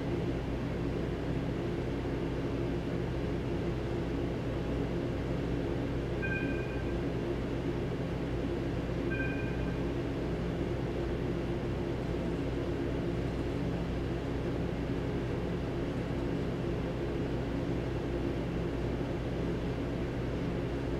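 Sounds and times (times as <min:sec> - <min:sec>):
train low hum: 0:00.0 - 0:20.9.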